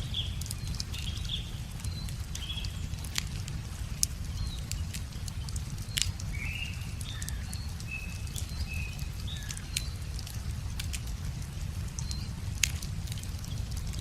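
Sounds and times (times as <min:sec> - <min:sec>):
small birds chirping: 0:00.0 - 0:14.0
wood fire crackling: 0:00.0 - 0:14.0
sharp pops from fire: 0:00.2 - 0:14.0.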